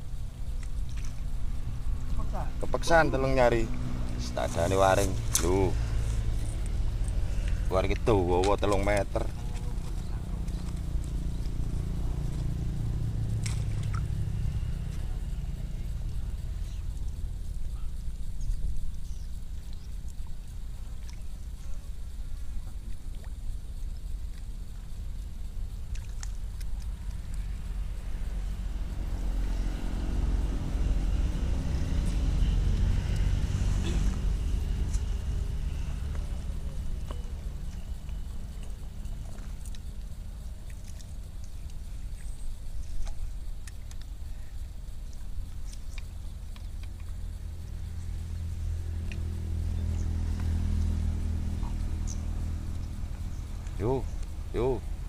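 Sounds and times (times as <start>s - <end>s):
engine low rumble: 0.0s - 55.0s.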